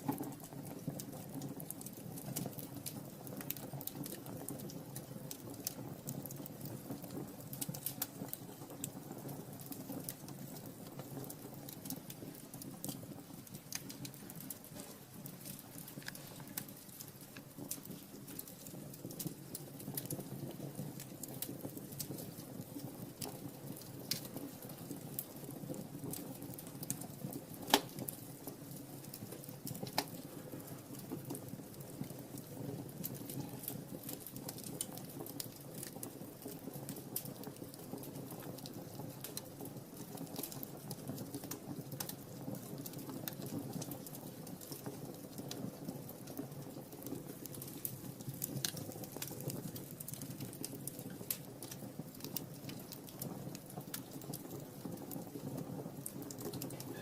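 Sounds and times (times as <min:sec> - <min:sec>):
low rush of fire: 0:00.0 - 0:57.0
wood fire crackling: 0:00.0 - 0:57.0.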